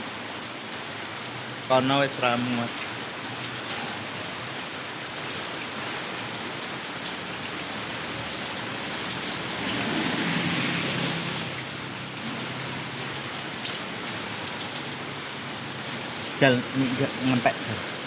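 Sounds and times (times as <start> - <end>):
heavy rain: 0.0 - 18.0
rushing floodwater: 0.0 - 18.0.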